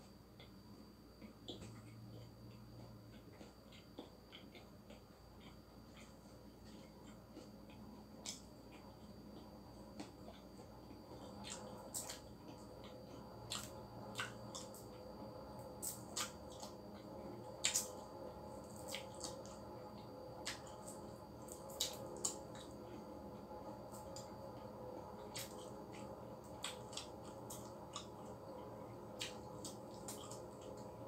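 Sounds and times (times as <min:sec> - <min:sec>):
steady faint hum: 0:00.0 - 0:31.0.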